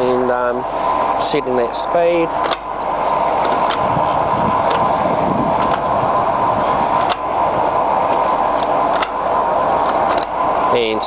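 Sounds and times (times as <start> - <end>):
lathe running with mechanical whir: 0.0 - 11.0.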